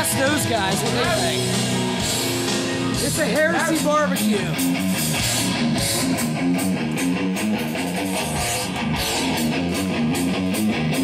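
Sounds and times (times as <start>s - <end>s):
distorted electric guitar riff: 0.0s - 11.0s
steady drum beat: 0.0s - 11.0s.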